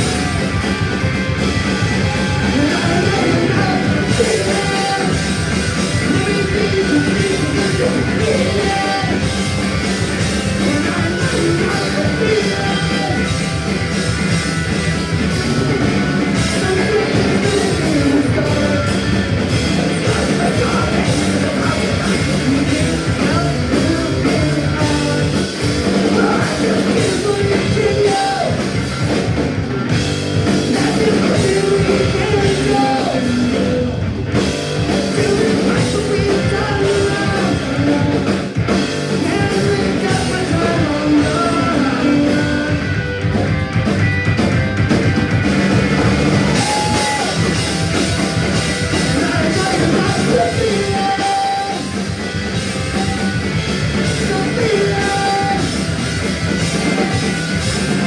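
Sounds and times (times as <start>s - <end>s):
person singing: 0.0s - 29.4s, 30.4s - 43.6s, 45.8s - 58.0s
drum kit: 0.0s - 58.0s
electric guitar: 0.0s - 58.0s.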